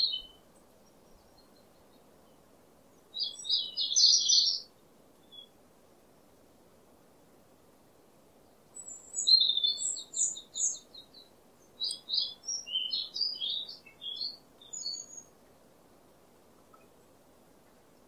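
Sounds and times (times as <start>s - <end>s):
songbird singing: 0.0s - 5.6s, 8.4s - 18.0s
faint steady hiss: 0.0s - 18.0s.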